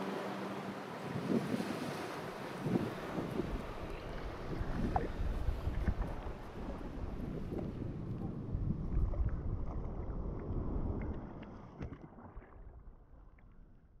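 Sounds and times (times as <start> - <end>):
wind rumbling on microphone: 1.0 - 14.0.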